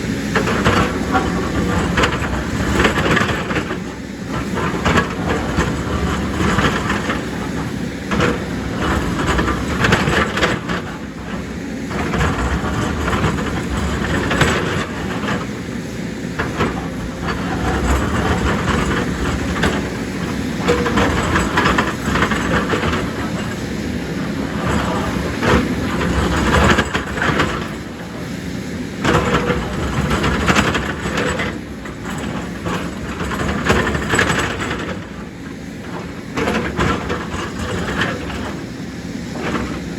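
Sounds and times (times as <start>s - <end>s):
excavator diesel engine under load: 0.0s - 39.9s
rock clanking and scraping: 0.4s - 39.9s.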